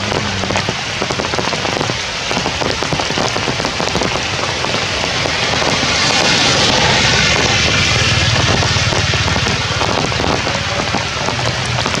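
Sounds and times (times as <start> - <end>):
heavy rain falling: 0.0 - 12.0
low rumble: 0.0 - 12.0.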